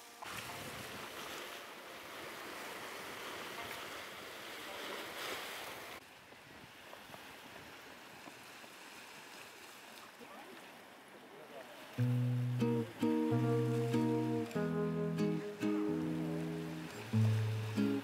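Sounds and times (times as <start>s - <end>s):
faint sea hiss: 0.0s - 18.0s
waves lapping against a seawall: 0.0s - 18.0s.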